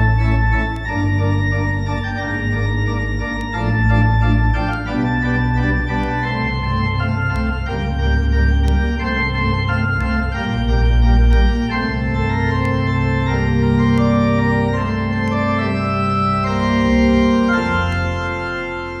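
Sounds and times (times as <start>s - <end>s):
organ playing chords: 0.0s - 19.0s.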